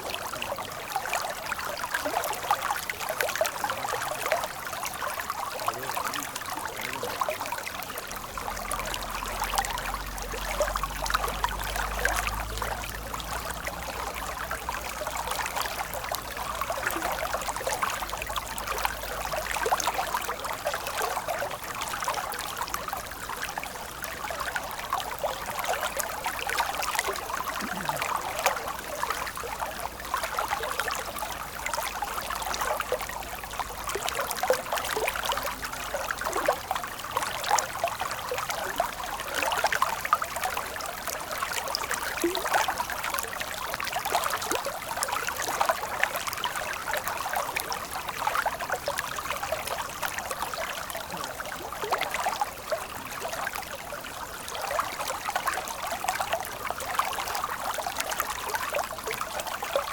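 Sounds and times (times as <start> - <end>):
stream of water running: 0.0 - 59.9.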